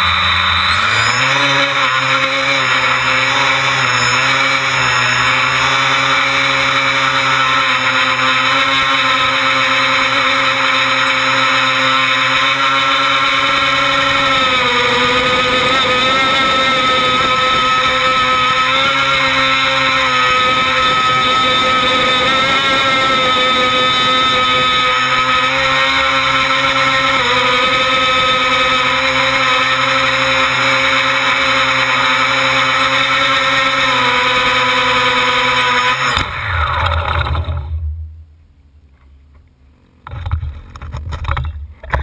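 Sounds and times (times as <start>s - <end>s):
drone motors buzzing whine: 0.0s - 42.0s.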